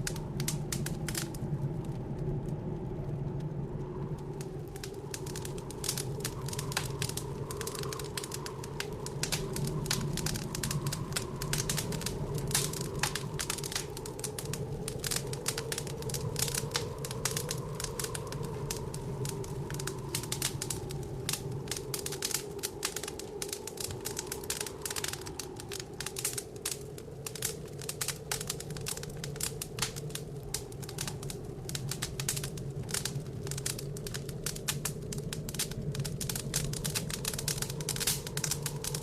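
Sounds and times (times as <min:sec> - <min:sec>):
low blizzard wind: 0:00.0 - 0:39.0
wood fire crackling: 0:00.0 - 0:39.0.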